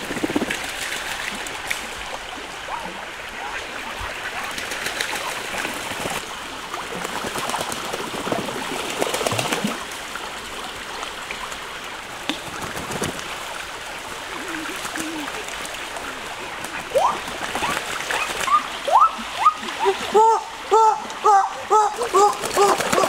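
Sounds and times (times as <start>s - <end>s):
ducks splashing in water: 0.0s - 10.0s, 12.2s - 20.1s, 21.5s - 23.0s.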